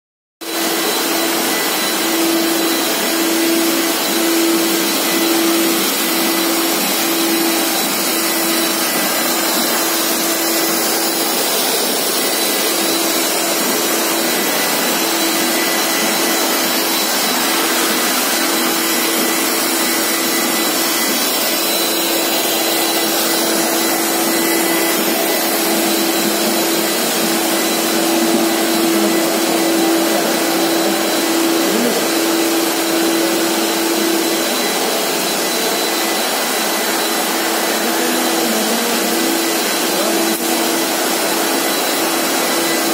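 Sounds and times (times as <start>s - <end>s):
floor scrubber running: 0.4s - 42.9s.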